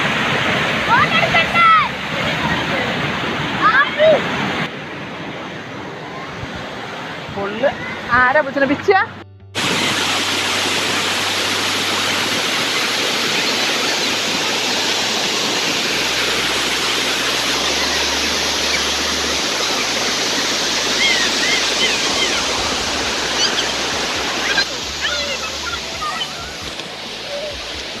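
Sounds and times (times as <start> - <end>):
waterfall rushing over rock: 0.0 - 4.7, 9.6 - 28.0.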